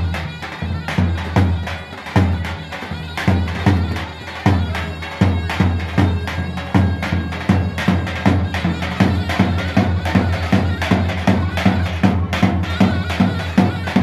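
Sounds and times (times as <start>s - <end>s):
reedy zurna melody: 0.0s - 14.0s.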